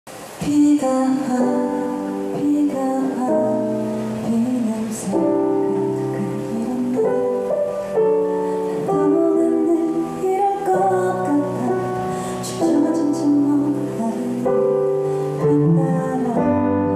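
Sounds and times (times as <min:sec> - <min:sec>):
piano chords: 0:00.1 - 0:16.9
woman singing into a microphone: 0:00.1 - 0:16.9.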